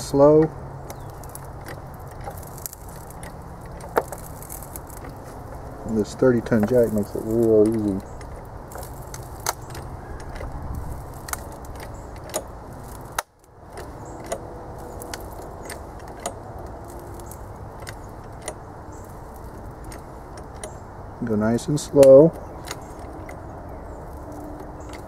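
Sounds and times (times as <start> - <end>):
metallic clicks of hose crimper: 0.0 - 25.0.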